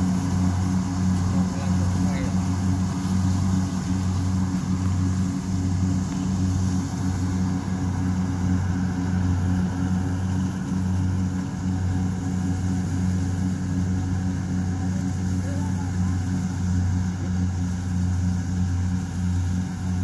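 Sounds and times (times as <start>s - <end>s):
combine harvester engine running: 0.0s - 20.0s.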